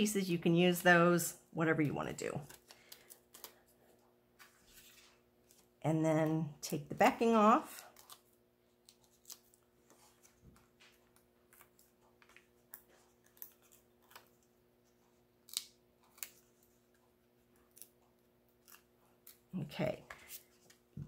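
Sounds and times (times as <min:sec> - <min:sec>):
faint room hum: 0:00.0 - 0:21.0
paper backing peeling crinkles: 0:02.4 - 0:05.8, 0:06.9 - 0:21.0.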